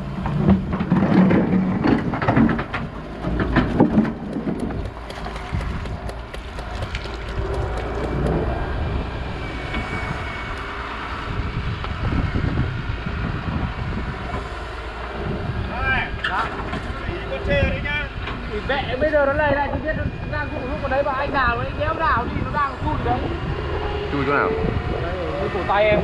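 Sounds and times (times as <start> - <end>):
diesel engine and hydraulics: 0.0 - 26.0.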